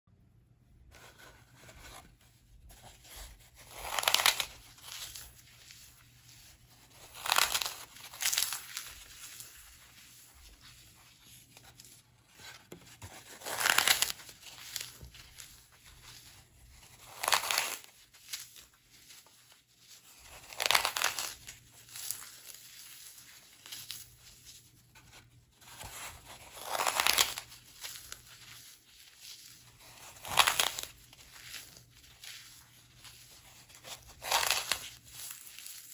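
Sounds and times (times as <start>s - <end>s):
foam crumbling and rubbing: 1.1s - 35.9s.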